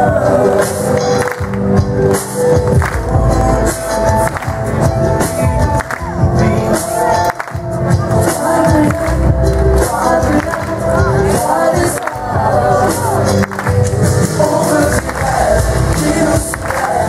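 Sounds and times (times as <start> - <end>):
musical theatre singing: 0.0 - 17.0.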